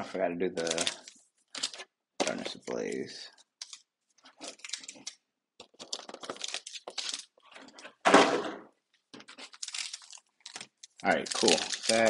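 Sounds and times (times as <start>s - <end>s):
packaging rustling and clicking: 0.6s - 8.1s, 9.1s - 12.0s.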